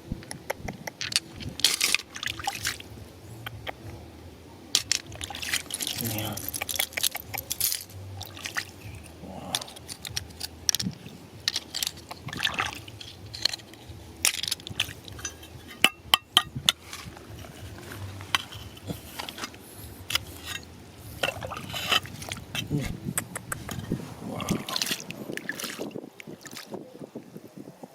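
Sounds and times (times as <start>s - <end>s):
water splashing: 0.0s - 27.0s
stones clinking in water: 0.4s - 2.8s, 4.7s - 25.9s.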